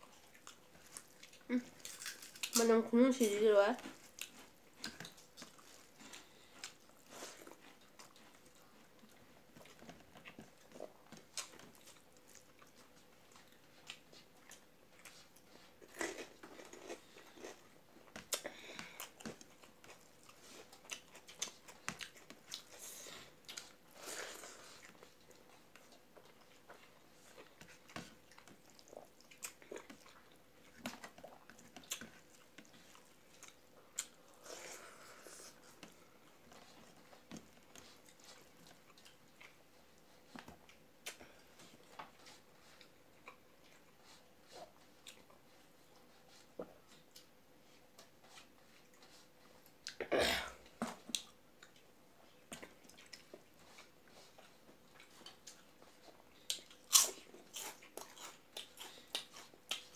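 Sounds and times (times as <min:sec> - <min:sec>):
chewing and mouth clicks: 0:00.0 - 0:50.0, 0:50.8 - 0:59.9.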